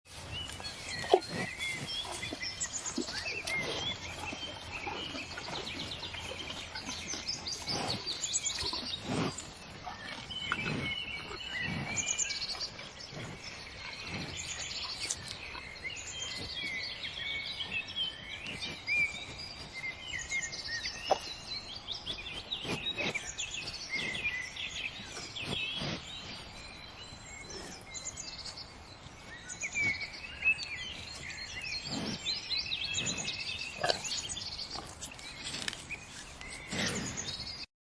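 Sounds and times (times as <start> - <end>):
cattle tearing and chewing grass: 0.1 - 37.6
birds chirping and singing: 0.1 - 37.7.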